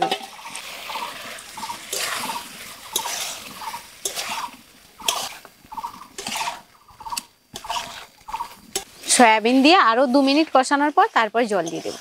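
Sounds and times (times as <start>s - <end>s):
metal spatula scraping pan: 0.0s - 12.0s.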